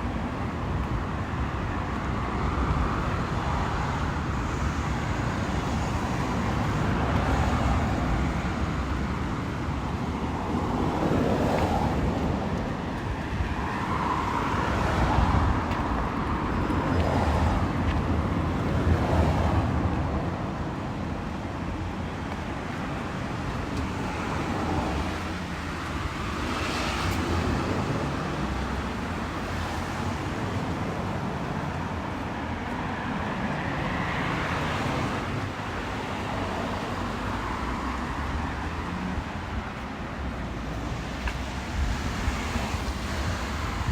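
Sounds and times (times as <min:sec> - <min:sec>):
cars passing on wet road: 0:00.0 - 0:43.9.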